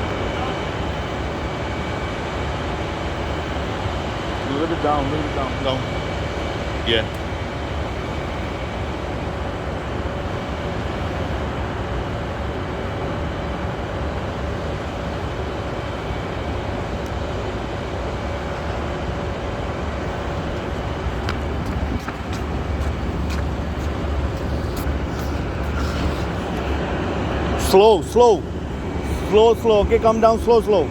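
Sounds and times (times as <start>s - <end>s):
engine rumble with whine: 0.0s - 30.9s.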